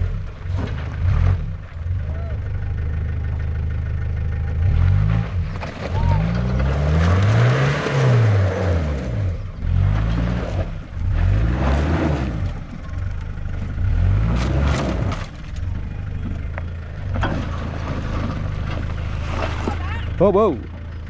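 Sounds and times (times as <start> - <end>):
off-road engine revving: 0.0 - 21.0.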